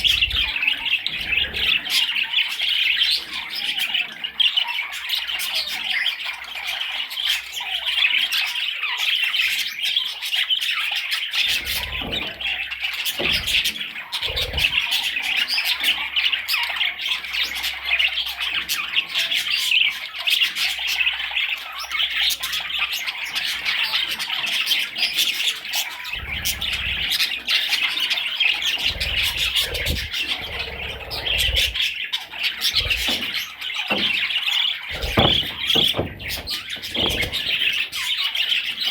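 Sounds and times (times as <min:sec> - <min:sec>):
budgerigar chattering and warbling: 0:00.0 - 0:38.9.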